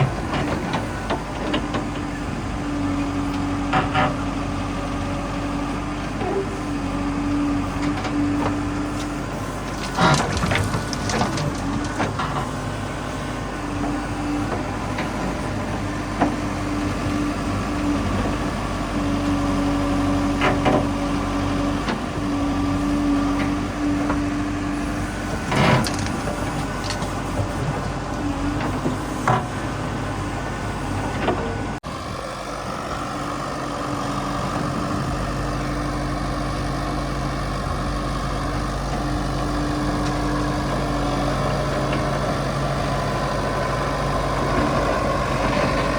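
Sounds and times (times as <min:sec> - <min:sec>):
heavy diesel engine running: 0:00.0 - 0:45.9
steady engine hum: 0:00.0 - 0:45.9.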